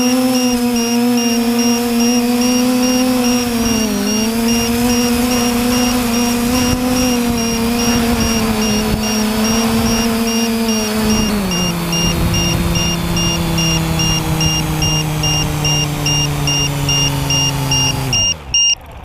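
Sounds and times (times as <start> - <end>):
quadcopter motors spinning: 0.0 - 19.0
high beep: 0.3 - 18.8.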